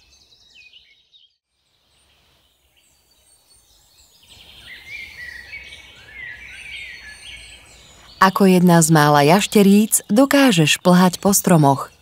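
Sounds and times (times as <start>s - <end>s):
songbirds chirping and singing: 0.0s - 12.0s.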